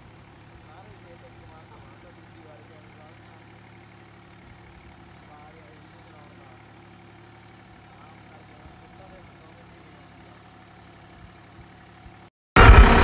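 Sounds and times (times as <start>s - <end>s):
tractor engine humming: 0.0s - 13.0s.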